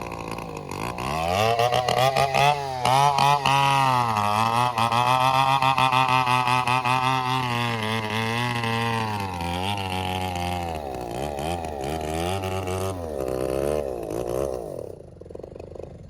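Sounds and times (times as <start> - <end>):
bulldozer diesel engine labouring: 0.0 - 14.9.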